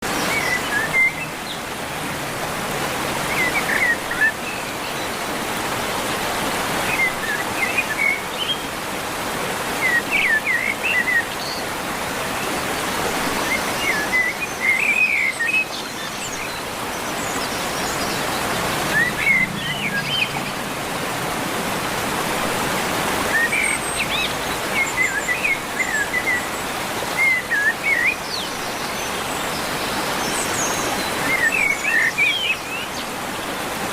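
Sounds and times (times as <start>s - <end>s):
birds chirping: 0.0s - 8.9s, 9.6s - 33.9s.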